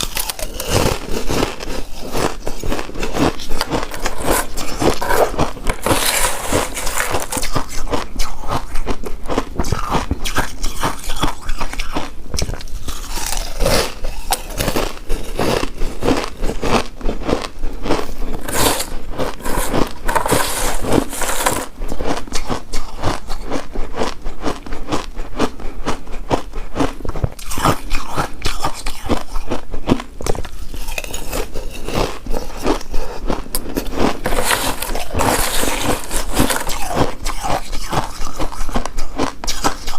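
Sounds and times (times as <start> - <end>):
chewing rice cake: 0.0 - 39.9.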